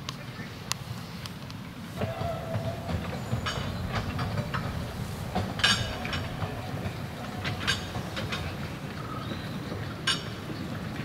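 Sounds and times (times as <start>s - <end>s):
sharp clicks from wheels: 0.0s - 11.0s
steam train rumbling along track: 0.0s - 11.0s.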